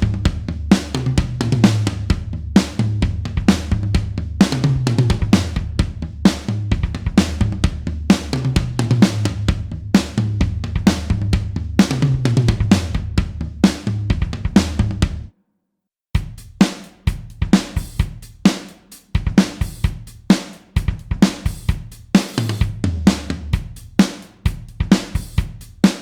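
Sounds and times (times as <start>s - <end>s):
rock drum kit beat: 0.0s - 15.3s, 16.2s - 26.0s.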